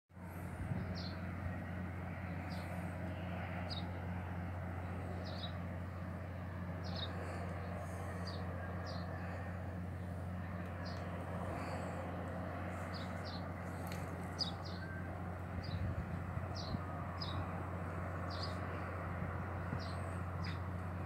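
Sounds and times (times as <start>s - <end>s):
steady low hum: 0.2s - 21.0s.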